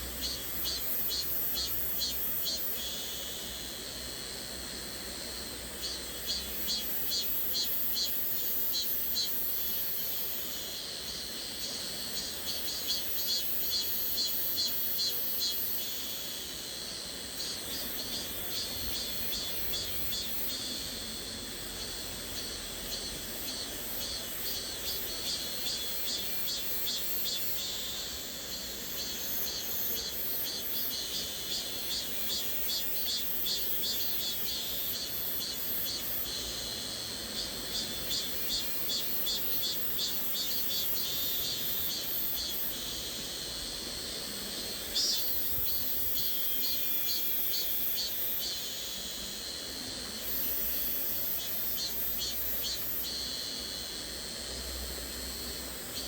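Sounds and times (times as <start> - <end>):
cicada buzz: 0.0 - 56.0.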